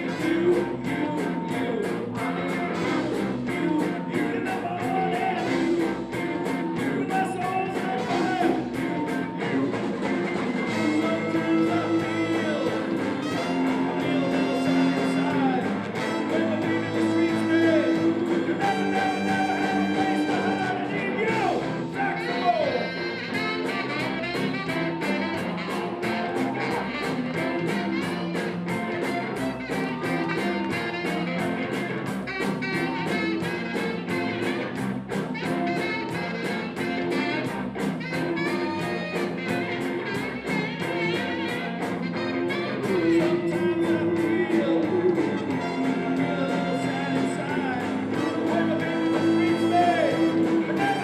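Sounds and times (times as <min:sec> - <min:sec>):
guitar: 0:00.0 - 0:51.0
horns: 0:00.0 - 0:51.0
rhythm and blues band playing: 0:00.0 - 0:51.0
steady drum beat: 0:00.0 - 0:51.0.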